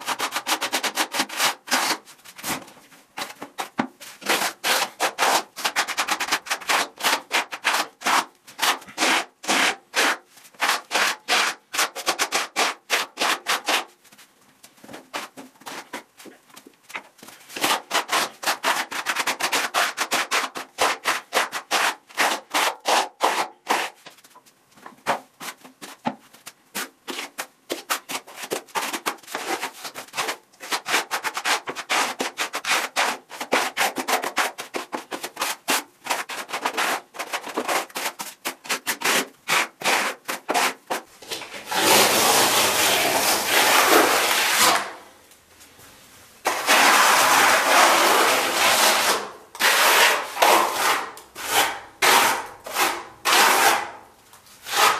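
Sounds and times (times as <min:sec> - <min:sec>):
trowel scraping across wall: 0:00.0 - 0:02.6, 0:03.2 - 0:14.0, 0:17.4 - 0:24.2, 0:26.7 - 0:45.1, 0:46.4 - 0:54.9.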